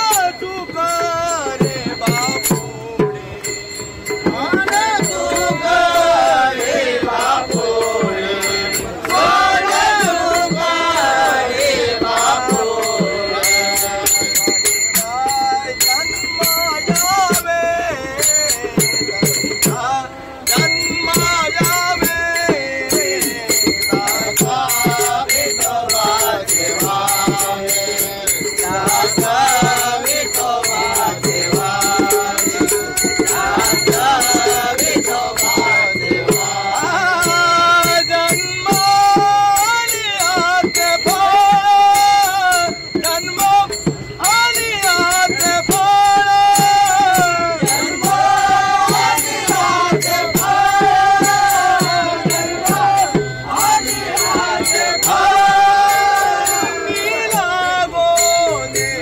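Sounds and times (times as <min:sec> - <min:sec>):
men singing together: 0:00.0 - 0:59.0
small hand cymbals ringing: 0:00.0 - 0:59.0.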